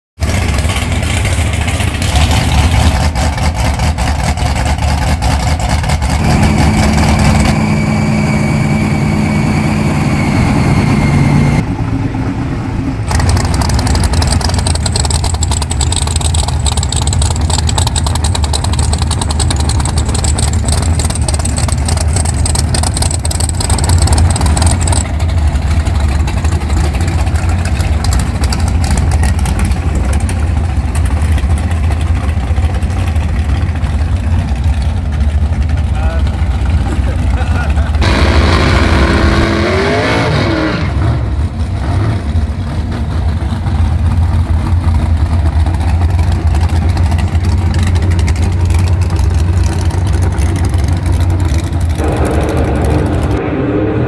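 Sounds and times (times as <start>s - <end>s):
drag-race engines idling: 0.2s - 53.6s.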